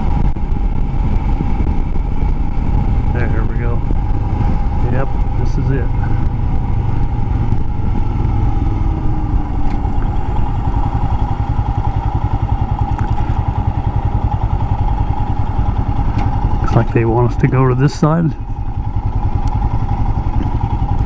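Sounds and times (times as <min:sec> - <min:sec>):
motorcycle engine running: 0:00.0 - 0:21.0
steady whine: 0:00.0 - 0:21.0.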